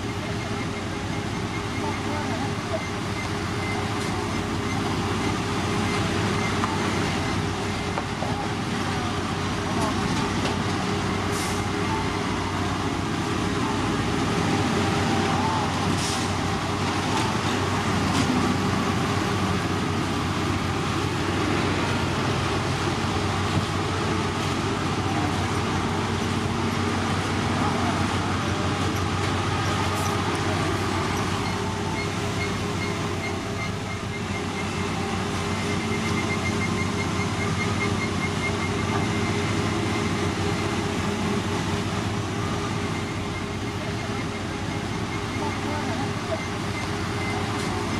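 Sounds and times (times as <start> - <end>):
heavy machinery engine humming: 0.0 - 47.9.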